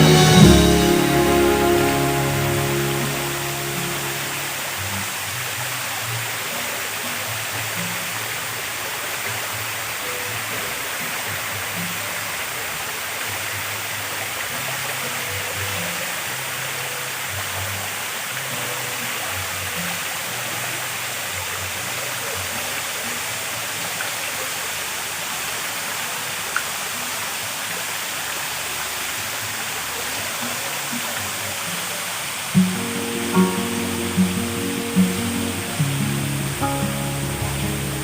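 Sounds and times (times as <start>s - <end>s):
running water rushing: 0.0s - 38.0s.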